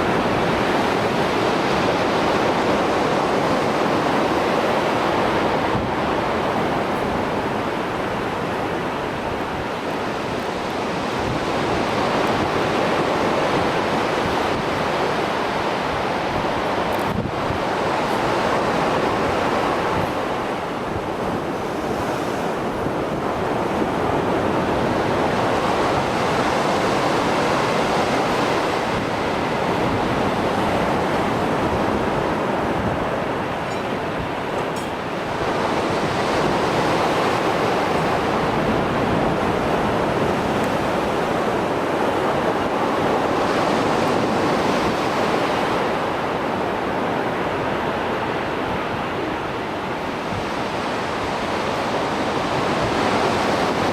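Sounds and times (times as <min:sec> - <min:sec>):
waves breaking on shore: 0:00.0 - 0:53.9
wind on microphone: 0:00.0 - 0:53.9.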